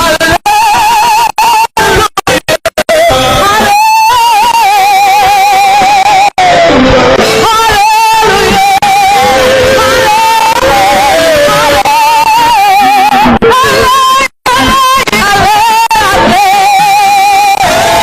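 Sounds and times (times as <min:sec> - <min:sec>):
person singing with vibrato: 0:00.0 - 0:18.0.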